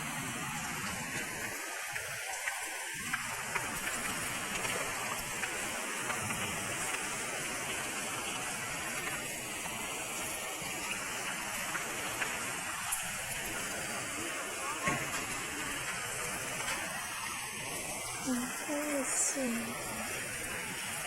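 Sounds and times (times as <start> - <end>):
heavy rain: 0.0 - 21.0
running water: 0.0 - 21.0.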